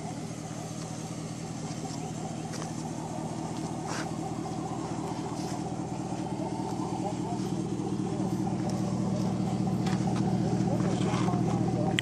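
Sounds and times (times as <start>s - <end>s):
pickup truck engine droning: 0.0s - 12.0s.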